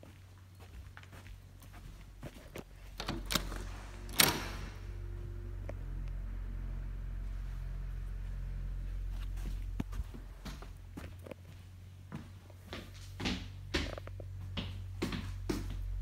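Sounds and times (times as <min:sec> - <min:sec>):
footsteps: 0:00.0 - 0:06.3, 0:07.0 - 0:16.0
steady low hum: 0:00.0 - 0:16.0.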